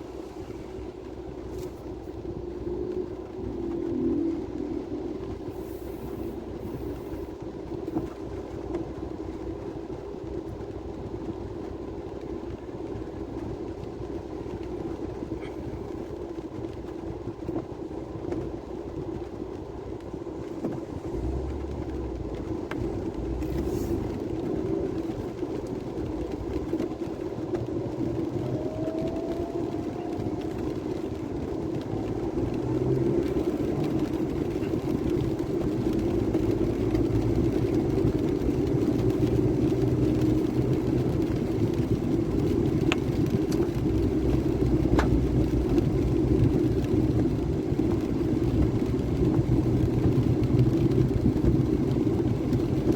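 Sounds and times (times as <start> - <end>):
engine and road drone: 0.0 - 52.9.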